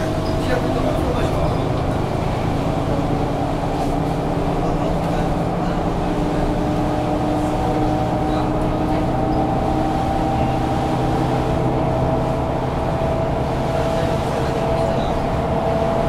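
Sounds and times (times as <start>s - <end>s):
bus diesel engine idling: 0.0s - 16.0s
constant whine: 0.0s - 16.0s.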